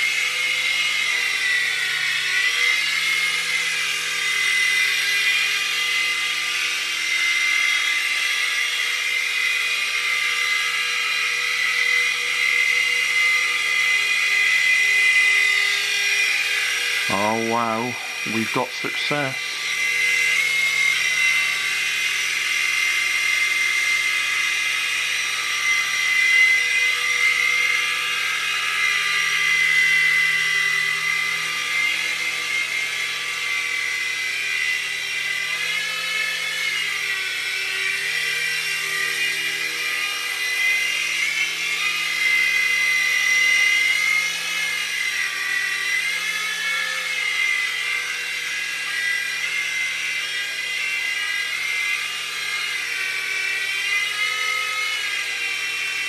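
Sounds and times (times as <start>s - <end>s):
toy helicopter rotors whining: 0.0s - 56.0s.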